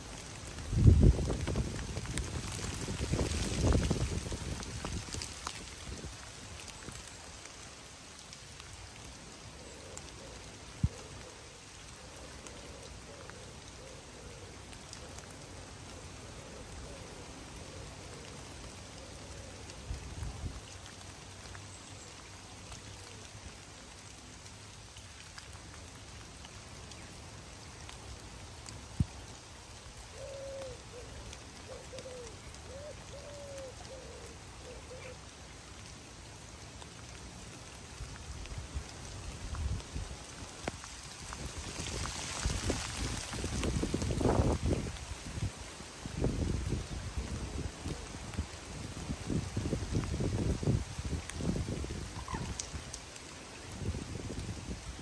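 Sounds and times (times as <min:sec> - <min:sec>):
rain falling on river and foliage: 0:00.0 - 0:55.0.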